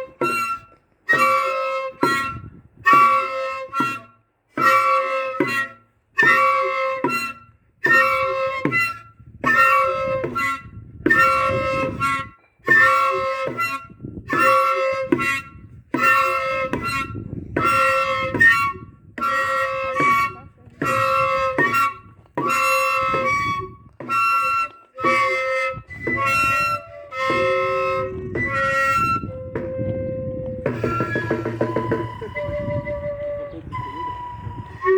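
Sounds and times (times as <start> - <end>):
buzzing cane flute blasts: 0.0 - 34.9.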